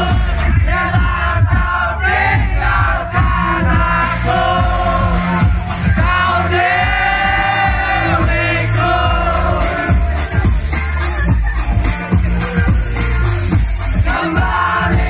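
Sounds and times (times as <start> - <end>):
crowd noise: 0.0 - 15.0
live concert music with heavy bass: 0.0 - 15.0.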